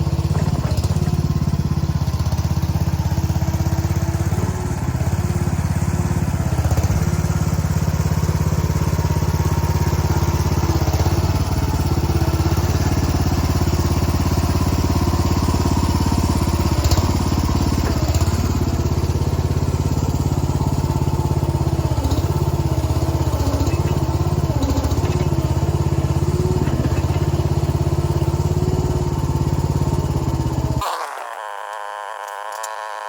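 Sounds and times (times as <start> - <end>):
mini excavator engine running: 0.0 - 33.0.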